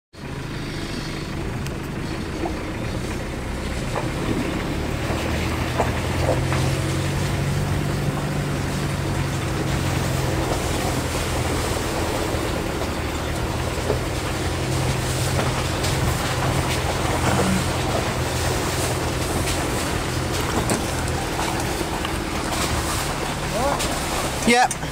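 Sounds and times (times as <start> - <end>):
vehicle engine running: 0.1 - 24.9
tyres splashing through puddles: 0.2 - 24.9
light knocks from rough road: 3.8 - 8.5, 9.7 - 24.9.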